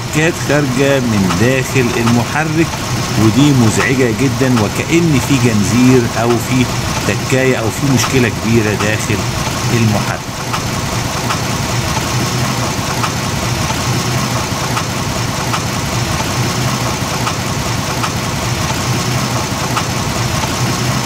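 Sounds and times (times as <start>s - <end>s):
sharp engine ticks: 0.0s - 20.7s
car engine idling: 0.0s - 21.0s.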